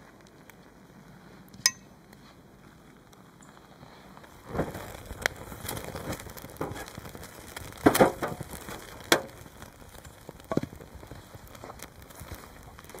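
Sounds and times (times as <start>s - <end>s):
campfire crackling and snapping: 0.0s - 13.0s.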